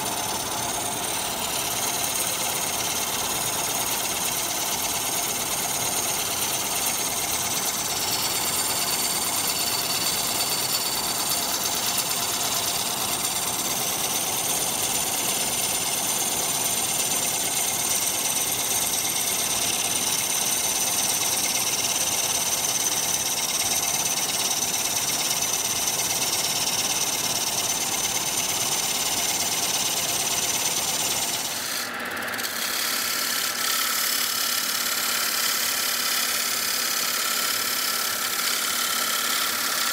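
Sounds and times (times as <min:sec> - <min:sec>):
tool cutting spinning wood: 0:00.0 - 0:39.9
wood lathe humming: 0:00.0 - 0:39.9.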